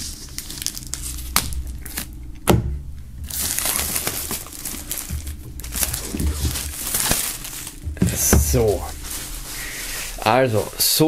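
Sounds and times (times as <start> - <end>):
plastic film crinkling: 0.0 - 2.2, 3.2 - 11.0.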